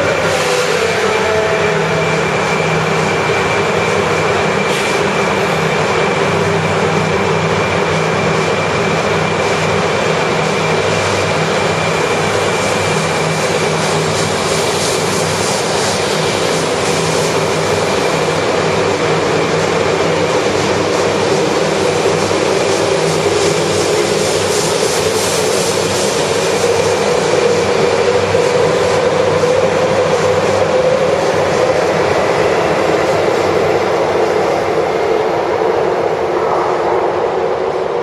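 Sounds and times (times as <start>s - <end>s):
high steady whine: 0.0s - 38.0s
train running roar: 0.0s - 38.0s.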